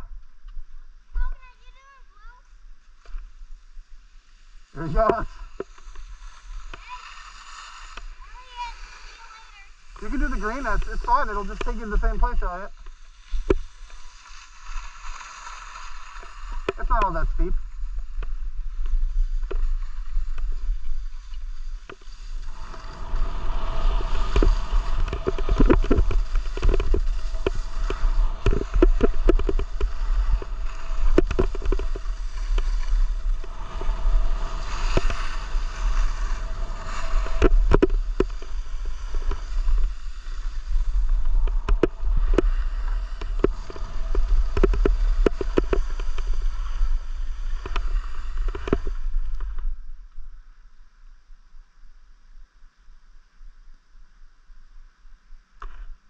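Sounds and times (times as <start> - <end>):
wind rumbling on microphone: 2.7 - 52.2
skis scraping over hard snow: 4.3 - 49.9.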